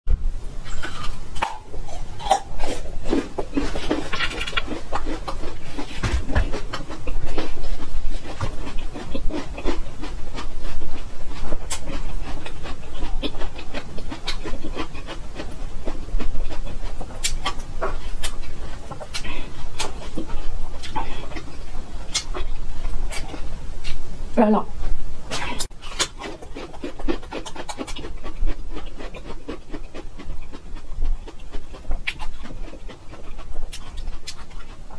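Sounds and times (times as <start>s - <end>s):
wet chewing: 0.6s - 24.0s, 24.8s - 34.9s.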